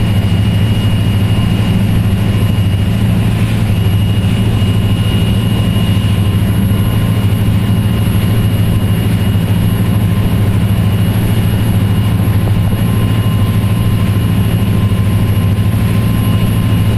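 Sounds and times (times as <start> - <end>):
motor boat engine droning: 0.0 - 16.9.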